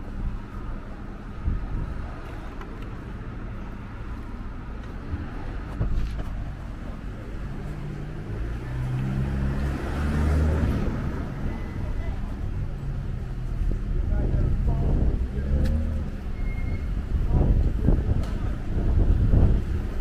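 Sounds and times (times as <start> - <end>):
street traffic: 0.0 - 20.0
vehicle engine humming: 0.0 - 20.0.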